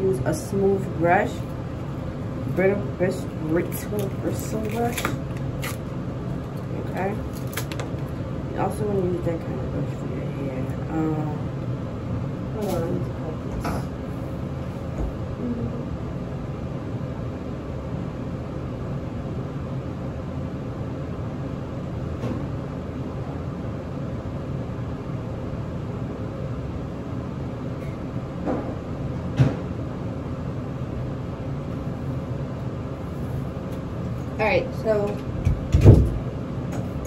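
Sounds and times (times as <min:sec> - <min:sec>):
mechanical hum: 0:00.0 - 0:37.0.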